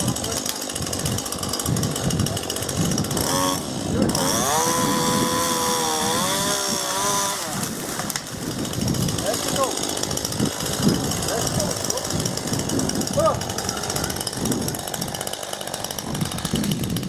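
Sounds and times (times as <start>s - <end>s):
chainsaw idling and revving: 0.0s - 17.0s.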